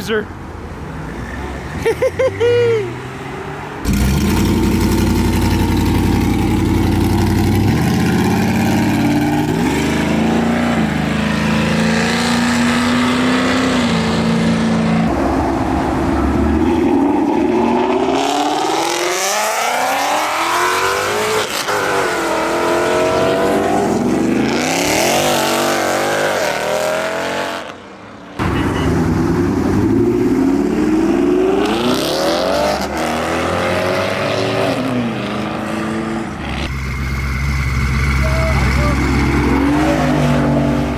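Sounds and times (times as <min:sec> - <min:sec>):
car engines revving hard: 0:00.9 - 0:40.9.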